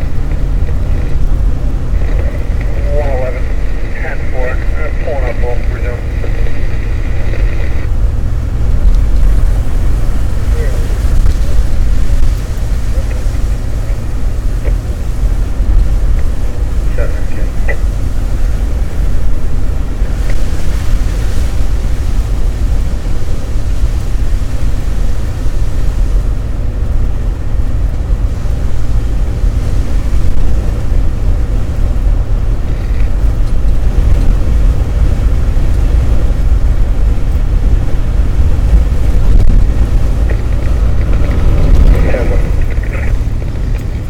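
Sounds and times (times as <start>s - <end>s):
car road rumble and tyre noise: 0.0s - 44.0s.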